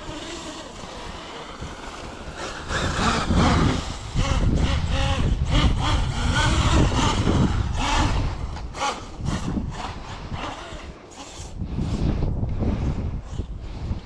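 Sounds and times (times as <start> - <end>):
electric motor whining: 0.0 - 13.7.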